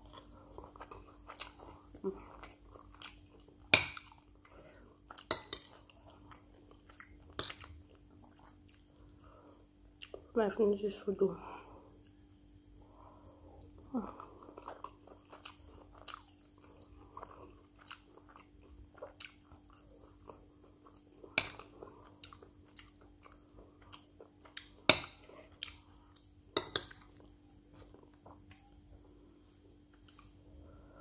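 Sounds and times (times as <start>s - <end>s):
person chewing food: 0.0s - 10.3s, 11.8s - 31.0s.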